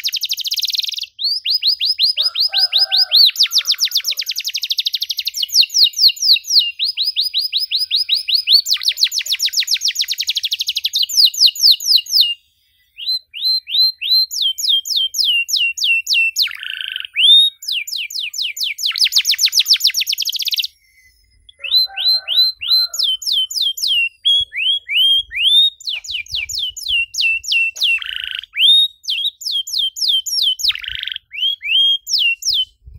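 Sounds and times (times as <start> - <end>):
canary singing trills: 0.0 - 32.9.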